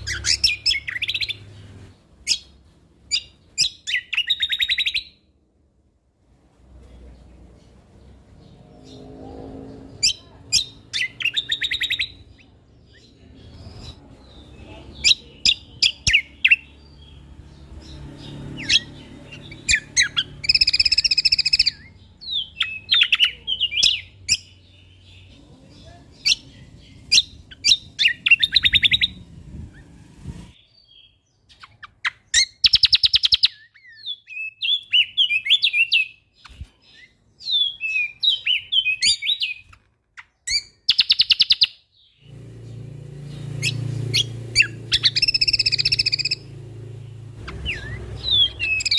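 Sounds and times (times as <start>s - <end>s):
songbird singing: 0.0s - 5.4s, 6.6s - 48.9s.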